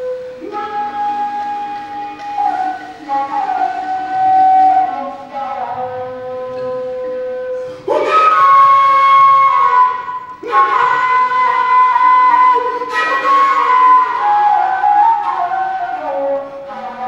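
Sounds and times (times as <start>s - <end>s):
flute melody of long notes: 0.0s - 17.0s.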